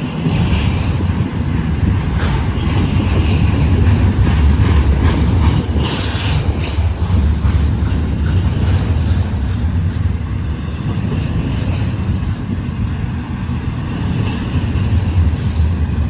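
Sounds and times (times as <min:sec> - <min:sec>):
freight train rolling past: 0:00.0 - 0:16.0
wheels clacking over rail joints: 0:00.0 - 0:16.0.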